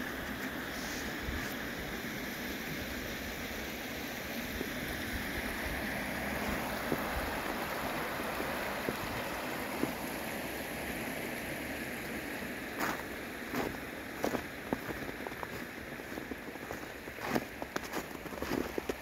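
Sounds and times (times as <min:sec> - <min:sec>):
creek water running over rocks: 0:00.0 - 0:19.0.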